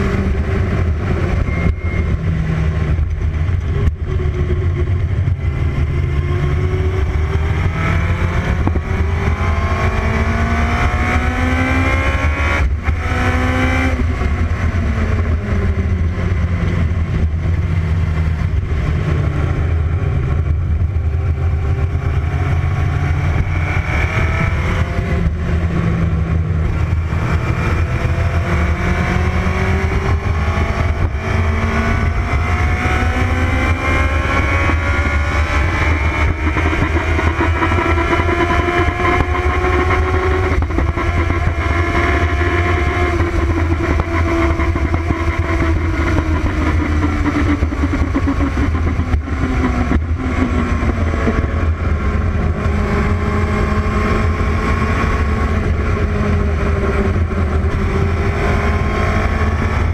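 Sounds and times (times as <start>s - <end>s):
racing engine revving: 0.0s - 59.9s
wind noise: 0.0s - 59.9s.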